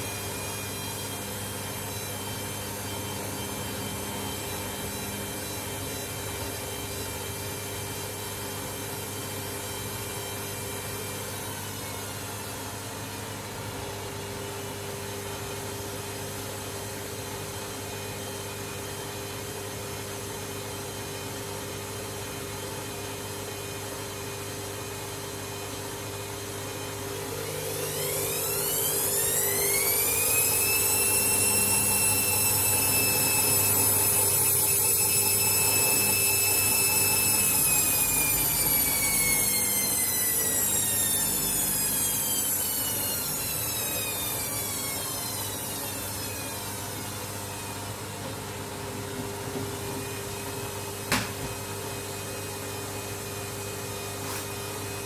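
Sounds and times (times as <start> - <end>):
drum motor spinning whine: 0.0 - 55.0
washing machine running: 0.0 - 55.0.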